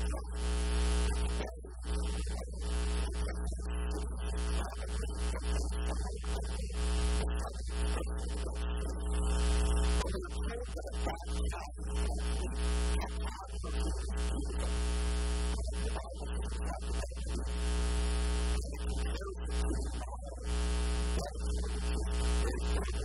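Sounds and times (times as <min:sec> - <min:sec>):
electrical mains hum: 0:00.0 - 0:23.0
muffled man's voice: 0:00.0 - 0:23.0.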